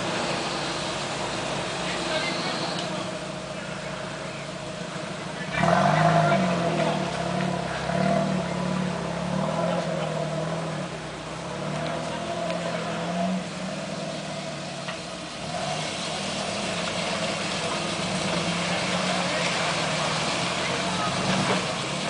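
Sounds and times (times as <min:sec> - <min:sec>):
off-road engine under load: 0:00.0 - 0:22.0.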